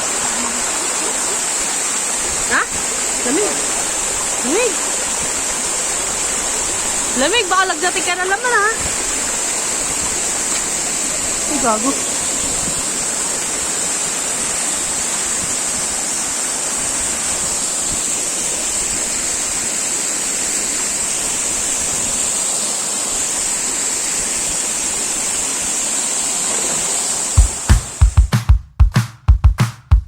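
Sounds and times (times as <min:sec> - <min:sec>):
waterfall rushing: 0:00.0 - 0:28.2.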